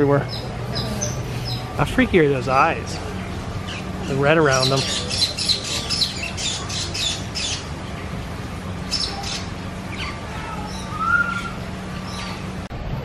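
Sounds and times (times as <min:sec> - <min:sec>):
birds chirping and squawking: 0:00.0 - 0:12.7.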